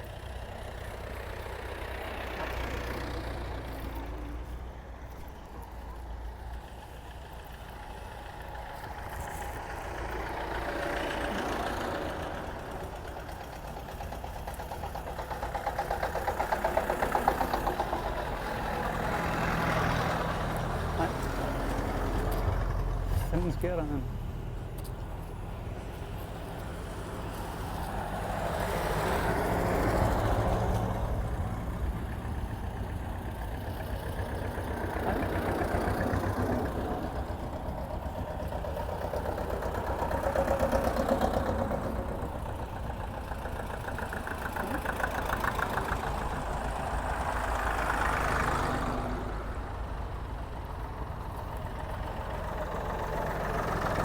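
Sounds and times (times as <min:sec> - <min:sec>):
vehicles passing on wet road: 0:00.0 - 0:54.0.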